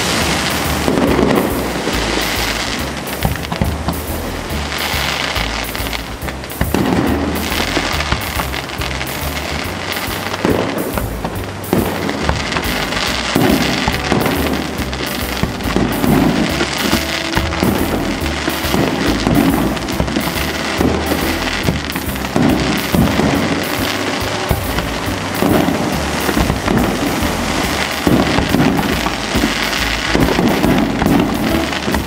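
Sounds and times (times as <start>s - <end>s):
big band swing music: 0.0s - 32.0s
firework shells bursting: 0.0s - 32.0s.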